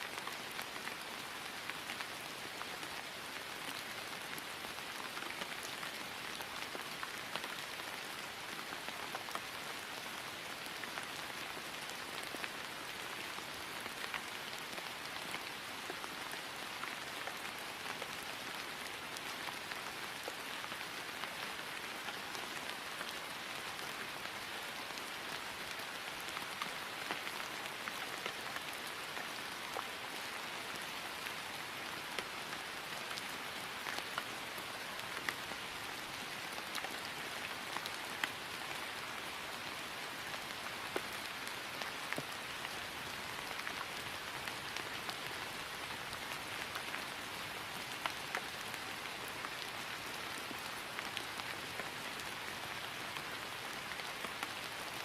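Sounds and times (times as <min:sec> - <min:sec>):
rain pattering on grass: 0:00.0 - 0:55.0.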